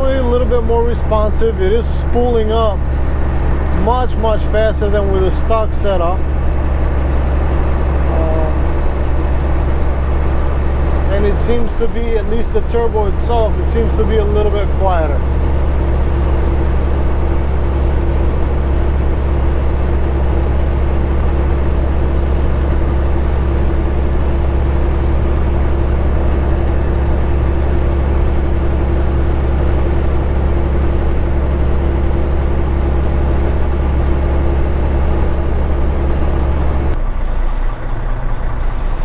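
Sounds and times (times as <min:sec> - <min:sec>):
diesel truck engine droning: 0:00.0 - 0:39.0.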